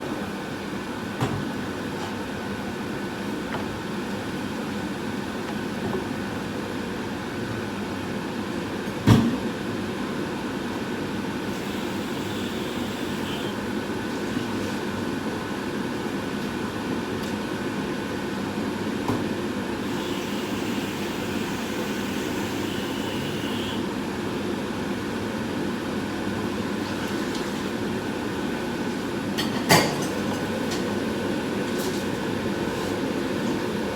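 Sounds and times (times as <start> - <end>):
mechanical hum with faint whine: 0.0 - 33.9.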